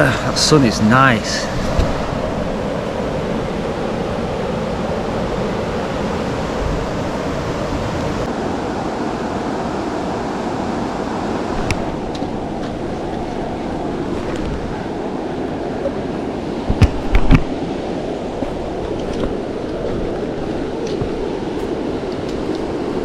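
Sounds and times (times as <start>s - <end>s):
river water flowing: 0.0s - 23.0s
wind: 0.0s - 23.0s.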